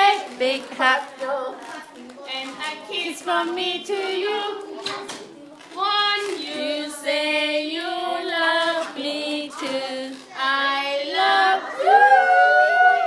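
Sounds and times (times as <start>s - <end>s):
woman and children singing: 0.0s - 13.0s.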